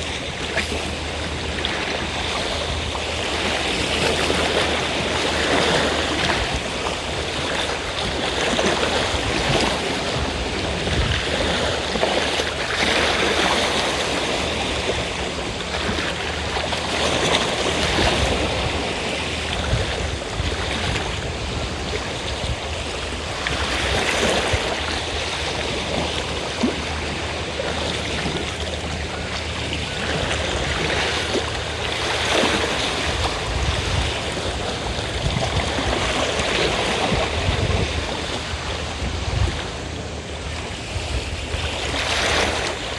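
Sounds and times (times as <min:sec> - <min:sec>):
faint low engine drone: 0:00.0 - 0:42.9
sea waves washing onto shore: 0:00.0 - 0:42.9.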